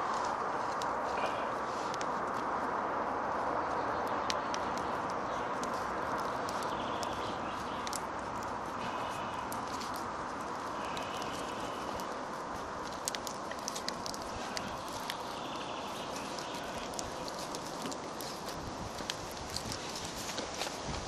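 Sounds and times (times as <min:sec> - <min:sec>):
steady outdoor hiss: 0:00.0 - 0:21.0
twigs clicking and rustling: 0:00.0 - 0:21.0.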